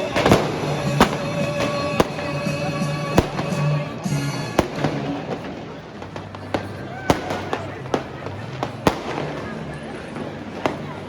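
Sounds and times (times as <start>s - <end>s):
firecrackers popping and crackling: 0.0s - 11.0s
firework bangs: 0.0s - 11.0s
music playing: 0.0s - 11.0s.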